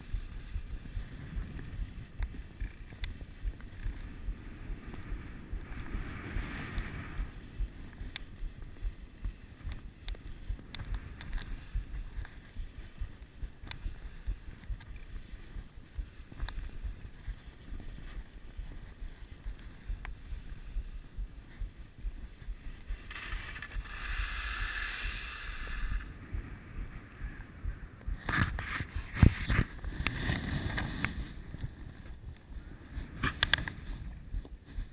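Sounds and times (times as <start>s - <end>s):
skis scraping over snow: 0.0s - 27.6s, 28.3s - 34.9s
wind buffeting microphone: 0.0s - 34.9s.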